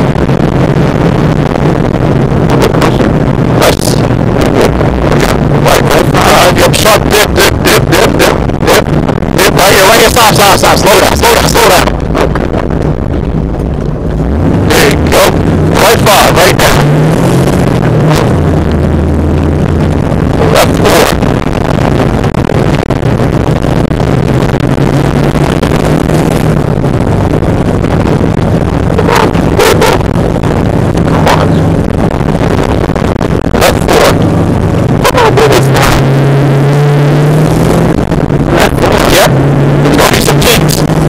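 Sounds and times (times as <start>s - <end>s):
rally car engine pulling hard: 0.0s - 41.0s.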